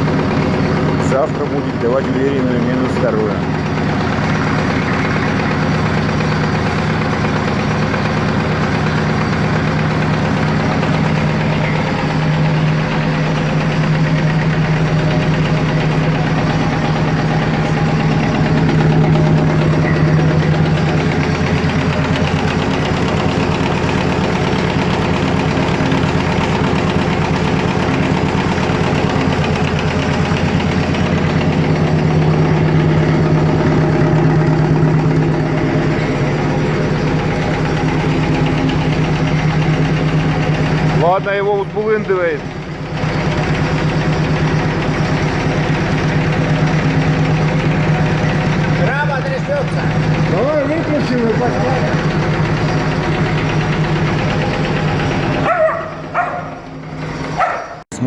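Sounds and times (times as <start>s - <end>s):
vacuum pump humming: 0.0s - 57.8s.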